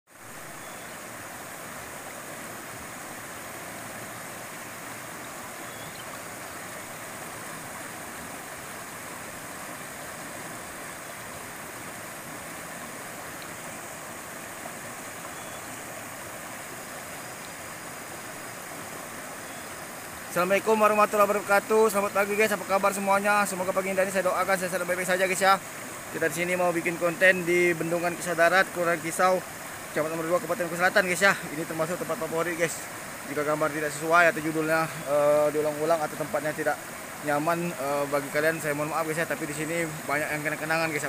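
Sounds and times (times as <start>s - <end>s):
river rushing over boulders: 0.1s - 41.0s.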